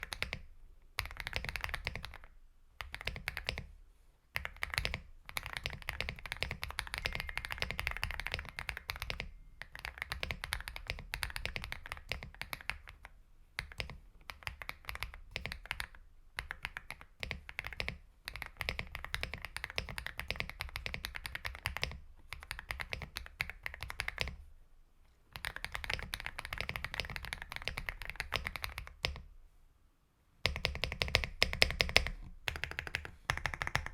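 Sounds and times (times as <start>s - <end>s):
mechanical keyboard typing: 0.0s - 0.4s, 1.0s - 3.7s, 4.4s - 24.4s, 25.3s - 29.2s, 30.4s - 33.9s.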